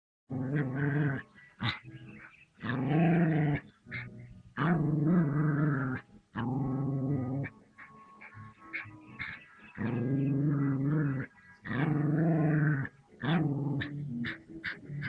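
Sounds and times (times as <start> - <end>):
dog growling: 0.3 - 15.0.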